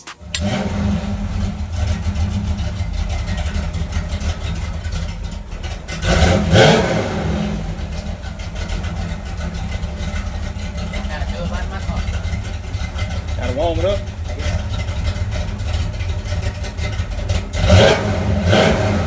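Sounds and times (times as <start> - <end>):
car engine revving: 0.0 - 19.0
car engine running: 0.0 - 19.0.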